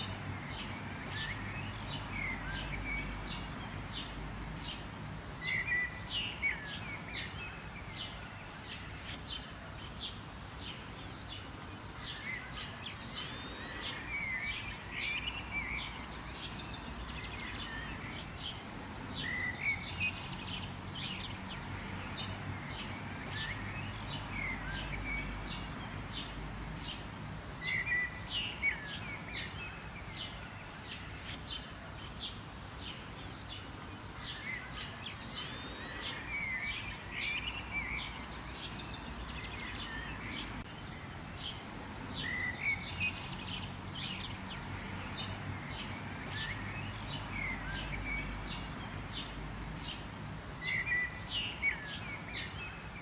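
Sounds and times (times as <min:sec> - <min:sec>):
birds chirping and calling: 0:00.0 - 0:53.0.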